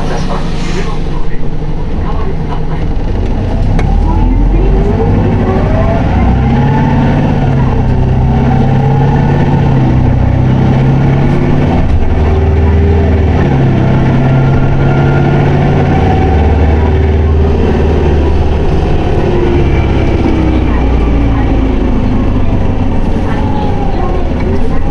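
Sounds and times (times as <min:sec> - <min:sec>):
bus diesel engine pulling: 0:00.0 - 0:24.9.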